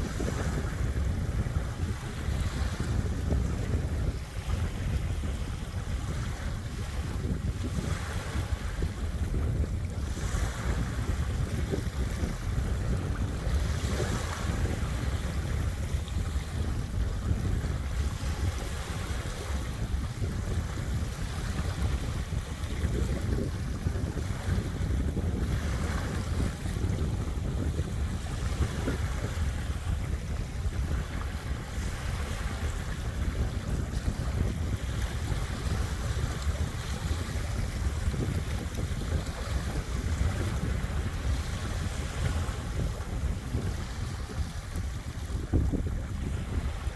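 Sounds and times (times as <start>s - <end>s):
small waves washing on beach: 0.0s - 46.9s
wind buffeting microphone: 0.0s - 46.9s.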